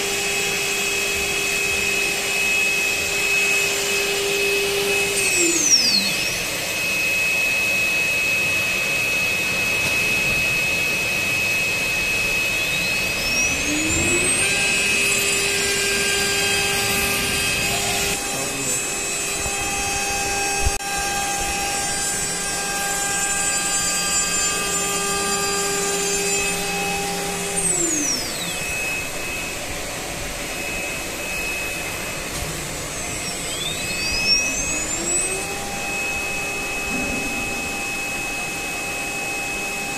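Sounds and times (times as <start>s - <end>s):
router spindle whine: 0.0s - 39.9s
rushing cutting noise: 0.0s - 39.9s.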